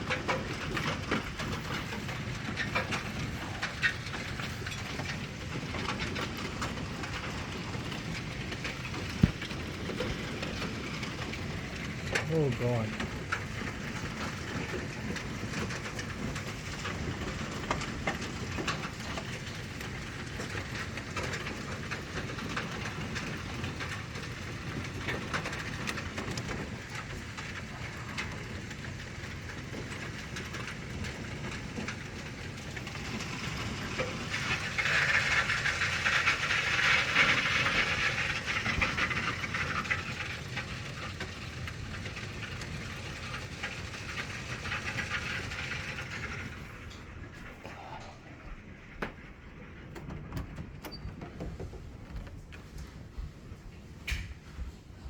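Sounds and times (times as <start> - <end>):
heavy rain: 0.0 - 50.3
hailstones ticking: 0.0 - 54.3.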